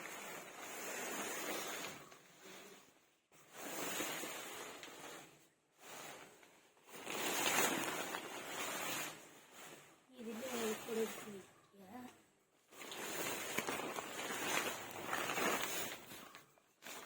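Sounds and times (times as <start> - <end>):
tent fabric rustling: 0.0 - 17.0.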